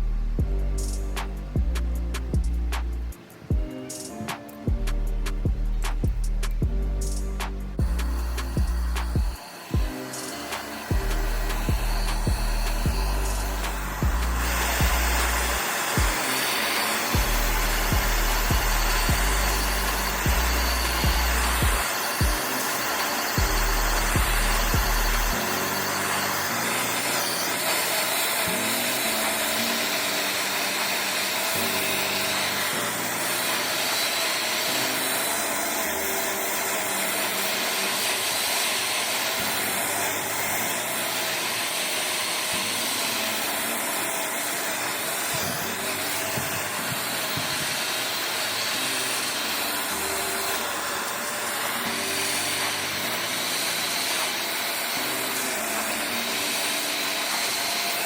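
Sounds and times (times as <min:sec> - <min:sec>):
background music: 0:00.0 - 0:58.0
power tool motor whine: 0:00.0 - 0:58.0.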